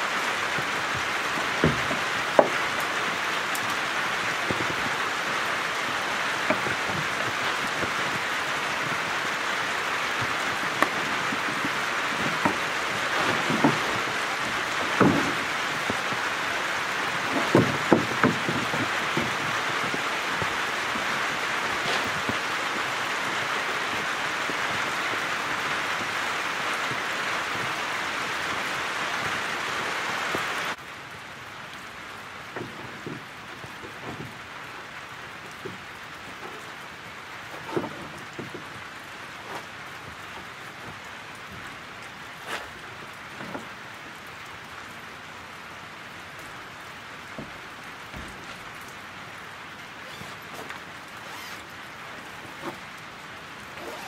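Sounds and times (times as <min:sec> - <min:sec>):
tent poles knocking and clattering: 0:00.0 - 0:30.8, 0:32.4 - 0:44.0, 0:47.2 - 0:49.0, 0:49.9 - 0:54.0
rain on a metal roof: 0:00.0 - 0:54.0.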